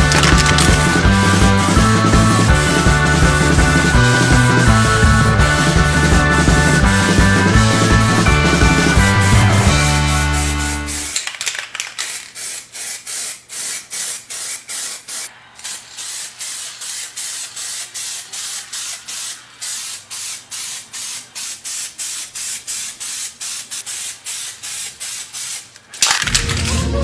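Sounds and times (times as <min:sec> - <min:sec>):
sprayer hissing in spurts: 0:00.0 - 0:11.2, 0:12.1 - 0:25.9.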